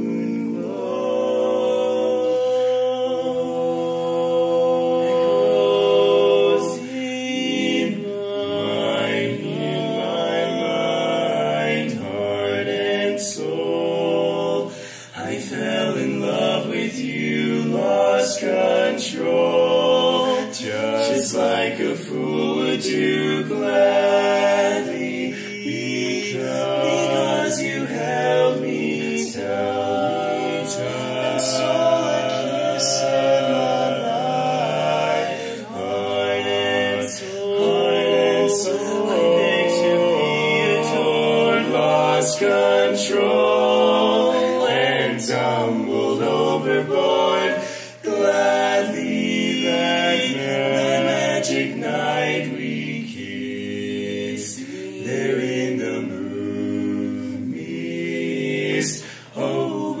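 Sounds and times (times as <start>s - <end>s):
vocal quartet singing a cappella: 0.0s - 60.0s.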